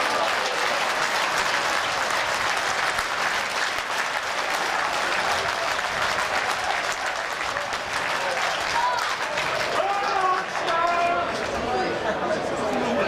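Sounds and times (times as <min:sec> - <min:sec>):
crowd applauding: 0:00.0 - 0:12.5.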